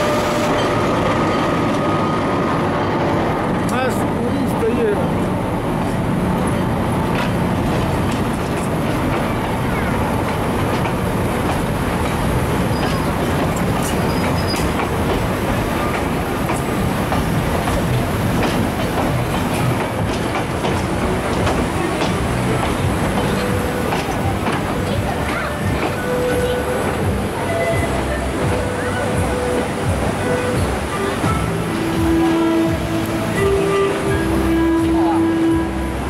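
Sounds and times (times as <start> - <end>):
steel train wheels on rails: 0.0 - 36.0.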